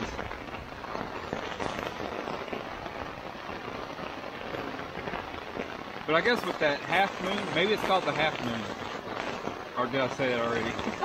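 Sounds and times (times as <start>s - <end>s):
rain on a tent fly: 0.0s - 11.0s.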